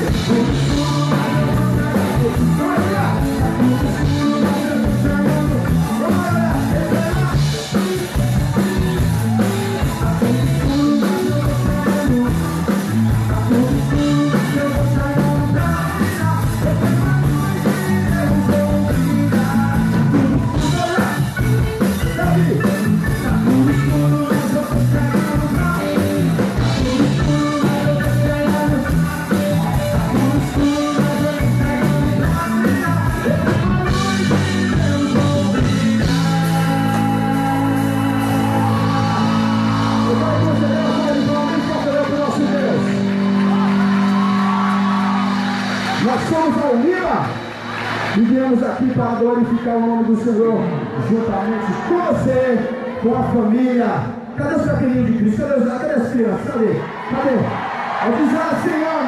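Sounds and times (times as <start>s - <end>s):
upbeat band music with singing: 0.0s - 59.0s.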